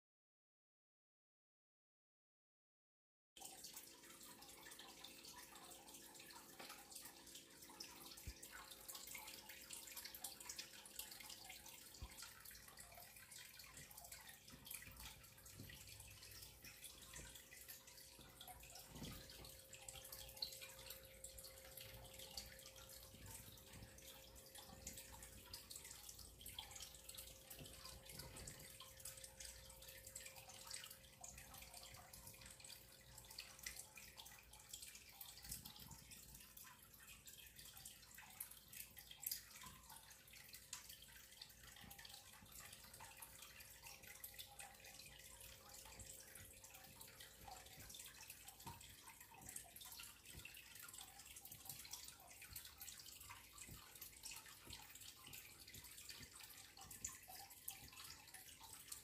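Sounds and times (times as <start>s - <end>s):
faint steady hum: 3.4s - 59.0s.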